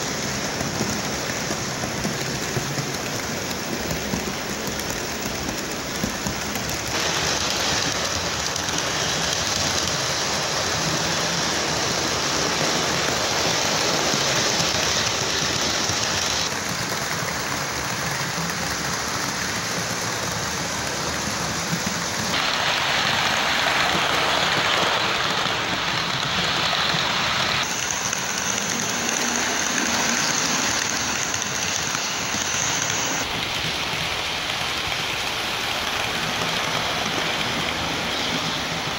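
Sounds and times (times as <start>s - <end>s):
model train wheels rumbling: 0.0s - 38.9s.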